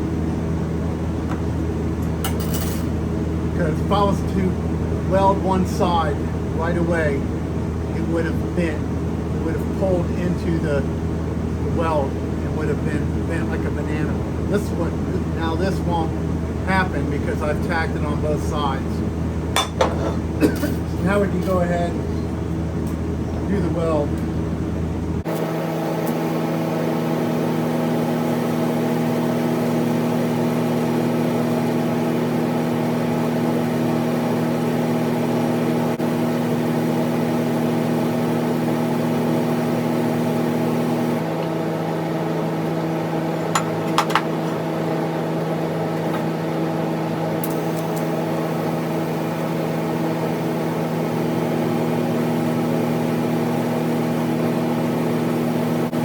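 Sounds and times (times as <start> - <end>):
welding machine humming: 0.9 - 56.0.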